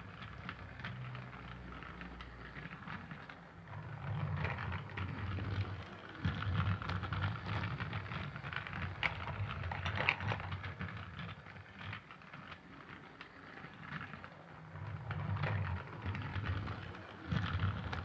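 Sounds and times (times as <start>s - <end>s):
toy train rumbling and clattering: 0.0s - 18.0s.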